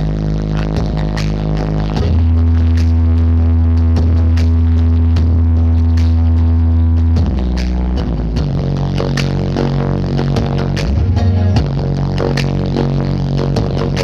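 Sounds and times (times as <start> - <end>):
deep bass note: 0.0 - 14.0
electronic dance music: 0.0 - 14.0.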